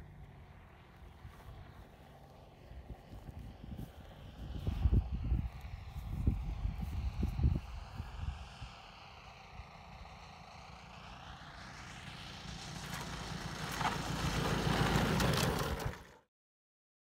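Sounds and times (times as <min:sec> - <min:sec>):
model airplane engine running: 0:00.0 - 0:16.3.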